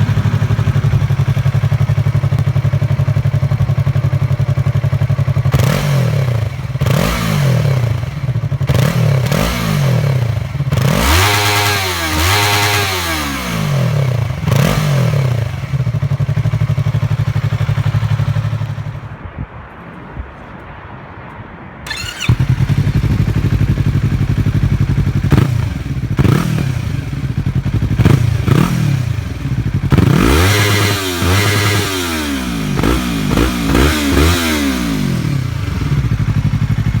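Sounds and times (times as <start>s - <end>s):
motorcycle engine revving: 0.0s - 19.1s, 21.9s - 37.0s.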